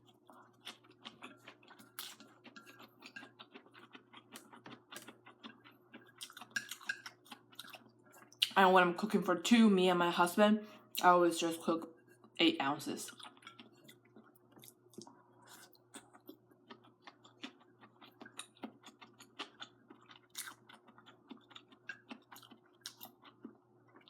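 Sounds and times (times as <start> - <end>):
mouth chewing noodles: 0.0 - 8.6, 13.1 - 24.0
faint steady hum: 0.0 - 24.0.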